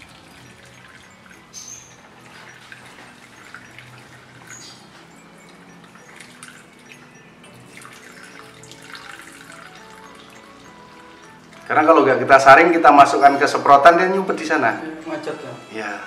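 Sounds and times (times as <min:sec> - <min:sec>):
liquid trickling and dripping: 0:00.0 - 0:15.2.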